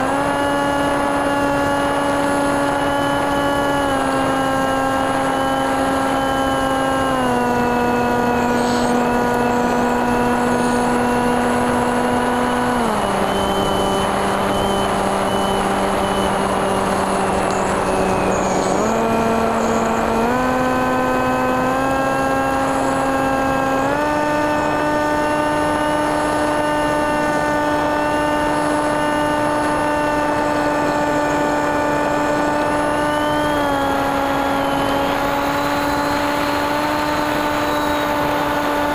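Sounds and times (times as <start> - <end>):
electric propeller motor whine: 0.0 - 38.9.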